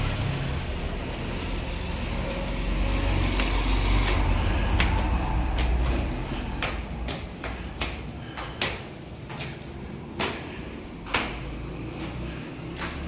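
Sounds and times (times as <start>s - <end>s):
vehicle rumbling on road: 0.0s - 9.1s, 9.8s - 13.0s.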